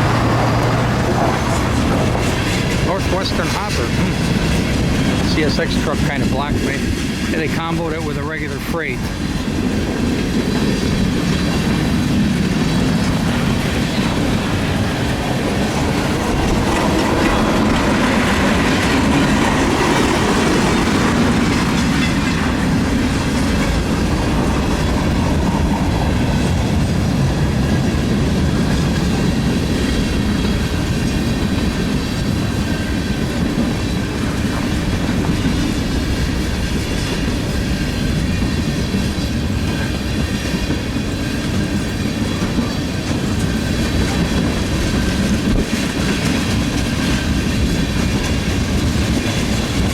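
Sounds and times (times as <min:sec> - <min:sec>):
freight train wheels clicking on rails: 0:00.0 - 0:49.9.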